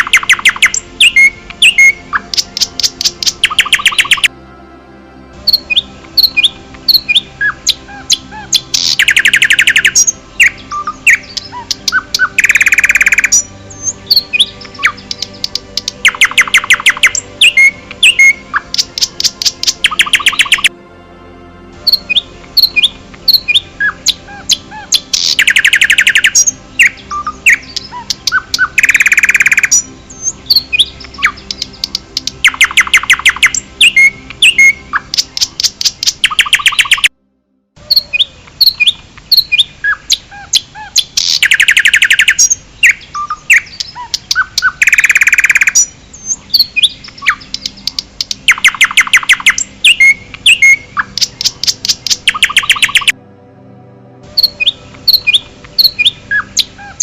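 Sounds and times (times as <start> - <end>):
birds singing and chirping: 0.0 - 4.3, 5.4 - 20.7, 21.8 - 37.1, 37.8 - 53.2, 54.3 - 57.0.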